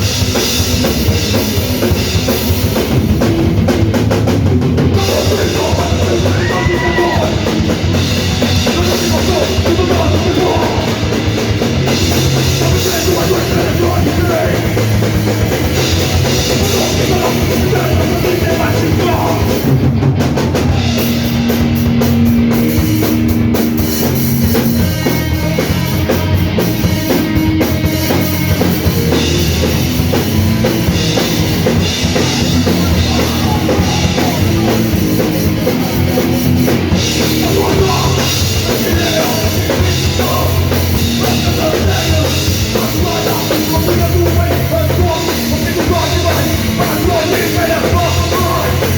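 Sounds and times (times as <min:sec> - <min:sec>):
distorted guitars: 0:00.0 - 0:48.9
heavy drum kit: 0:00.0 - 0:48.9
punk band playing live: 0:00.0 - 0:48.9.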